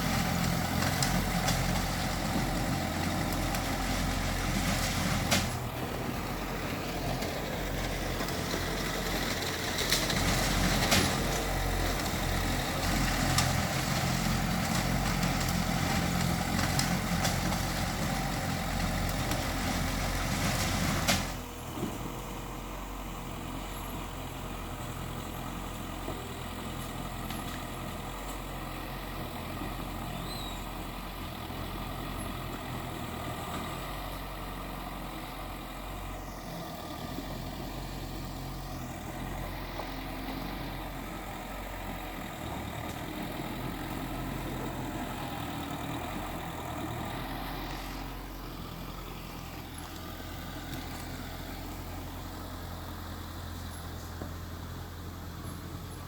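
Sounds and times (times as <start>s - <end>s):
heavy earthmoving machinery running: 0.0s - 56.0s.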